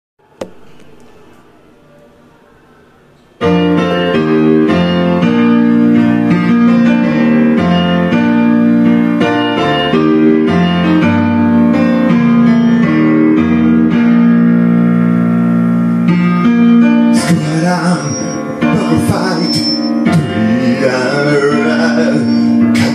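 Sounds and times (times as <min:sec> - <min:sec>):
piano chords: 0:00.2 - 0:22.9.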